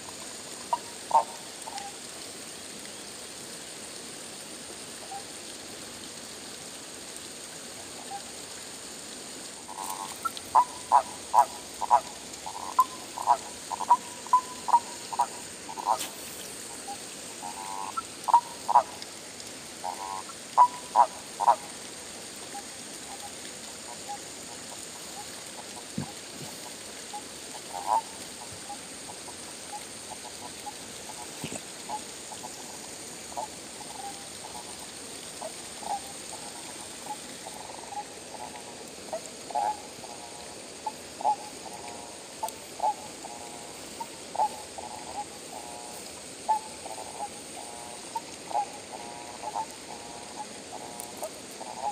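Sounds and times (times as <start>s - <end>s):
frogs croaking: 0.0s - 3.6s, 7.8s - 8.6s, 9.3s - 51.9s.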